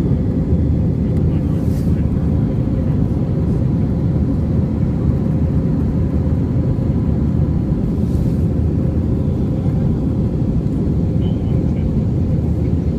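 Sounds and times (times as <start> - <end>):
jet airliner cabin rumble: 0.0 - 12.9.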